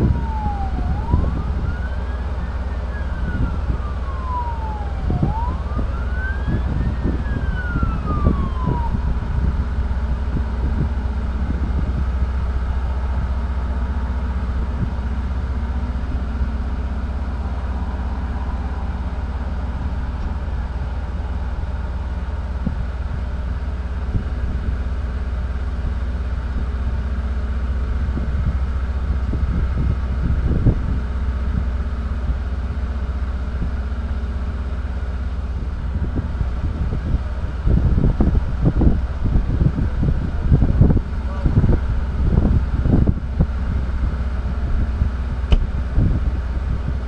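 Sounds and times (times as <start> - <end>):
vehicle engine idling: 0.0 - 47.0.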